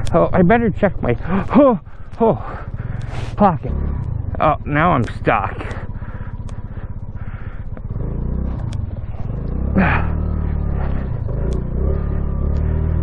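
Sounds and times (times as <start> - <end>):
small engine revving: 1.1 - 13.0.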